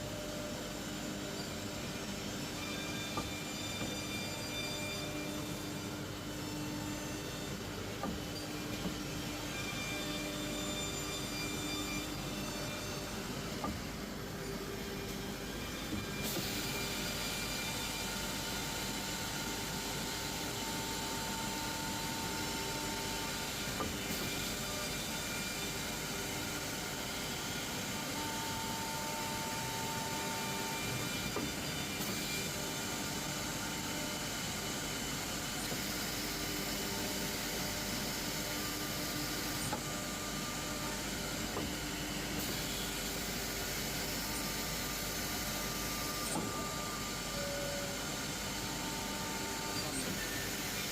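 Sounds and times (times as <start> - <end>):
drilling machine hum and hiss: 0.0 - 50.9.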